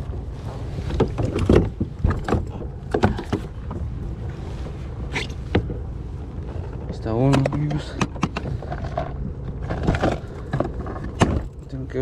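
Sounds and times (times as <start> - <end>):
knocks and clatter in a kayak: 0.0 - 12.0
low steady rumble: 0.0 - 12.0.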